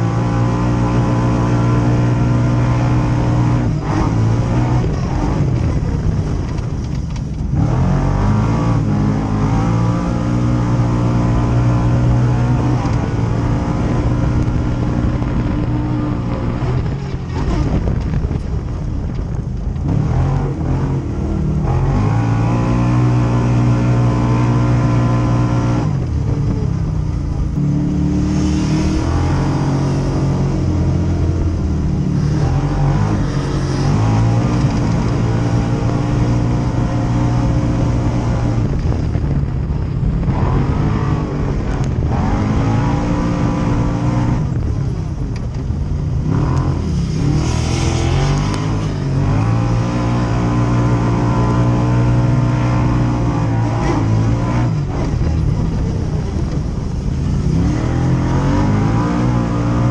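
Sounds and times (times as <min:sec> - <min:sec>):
utility vehicle engine revving: 0:00.0 - 0:59.9.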